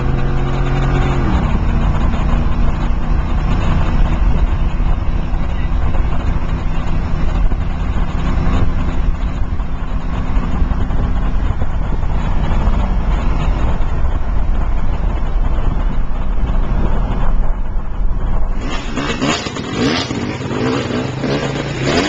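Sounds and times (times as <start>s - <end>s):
loud vehicle engine running: 0.0s - 22.0s.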